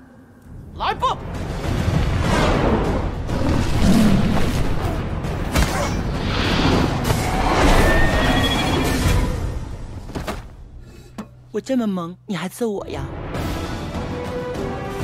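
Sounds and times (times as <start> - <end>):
film soundtrack music with booms: 0.0 - 15.0.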